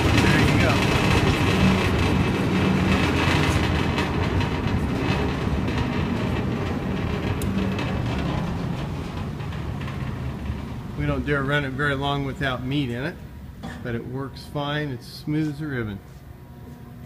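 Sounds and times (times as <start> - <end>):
grinder machine humming and rattling: 0.0 - 15.0.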